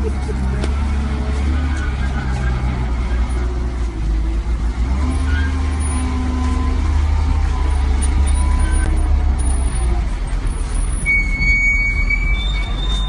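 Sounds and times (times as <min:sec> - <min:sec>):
heavy engine rumbling: 0:00.0 - 0:13.0.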